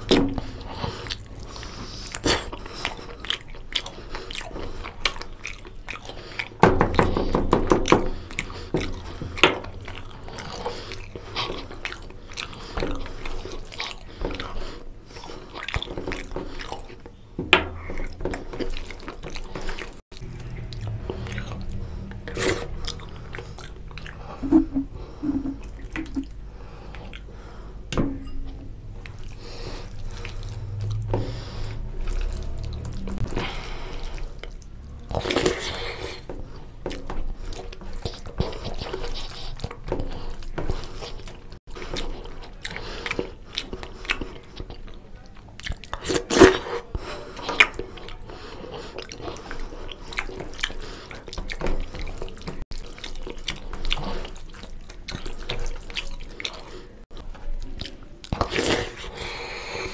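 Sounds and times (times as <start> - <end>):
wet chewing and lip smacks: 0.0 - 27.6, 28.5 - 59.9.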